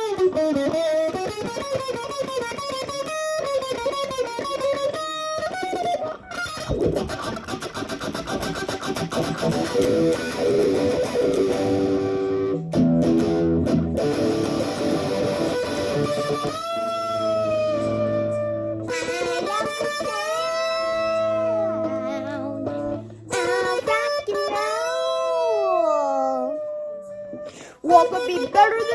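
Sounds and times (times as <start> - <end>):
rock music with electric guitar: 0.0 - 25.4, 27.2 - 28.9.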